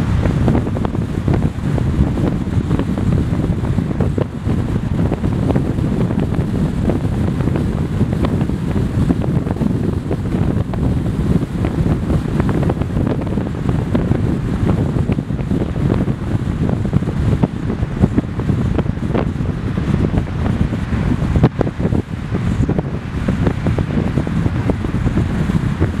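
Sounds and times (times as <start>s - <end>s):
car rumble at road speed: 0.0s - 26.0s
wind buffeting microphone: 0.0s - 26.0s.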